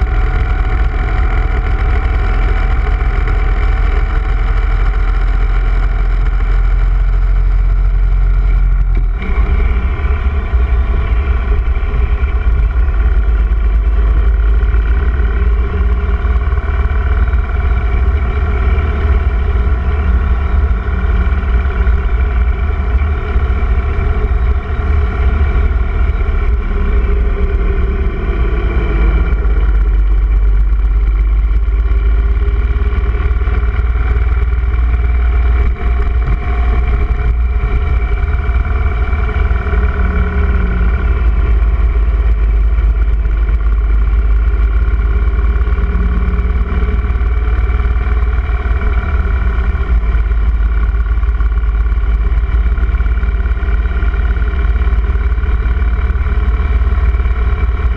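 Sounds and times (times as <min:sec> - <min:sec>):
motorcycle engine running: 0:00.0 - 0:57.9
wind rumbling on microphone: 0:00.0 - 0:57.9.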